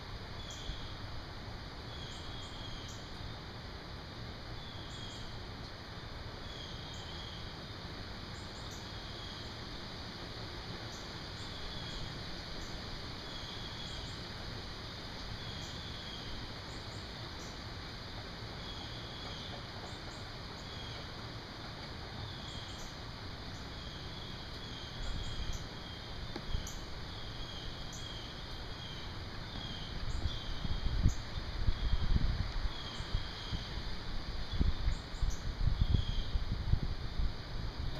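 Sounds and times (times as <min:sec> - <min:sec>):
insect chorus buzzing: 0:00.0 - 0:37.9.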